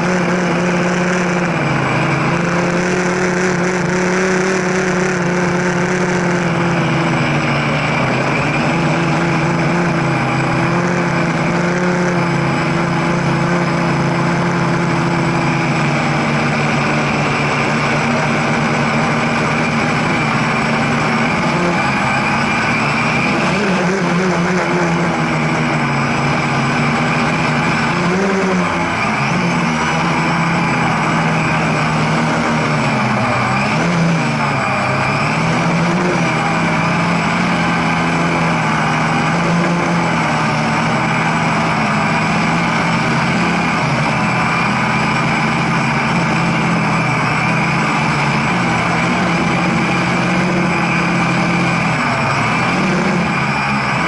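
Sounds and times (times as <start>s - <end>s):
drone propellers whirring: 0.0s - 54.0s.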